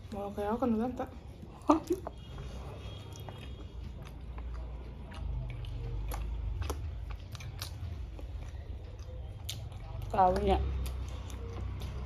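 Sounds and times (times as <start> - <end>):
chewing and biting food: 1.3 - 12.0.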